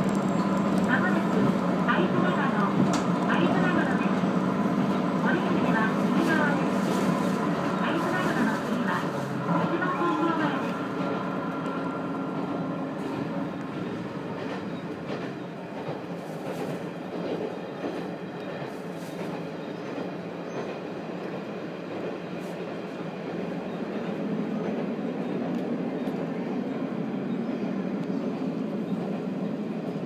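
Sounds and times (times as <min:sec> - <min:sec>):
train running noise: 0:00.0 - 0:30.0.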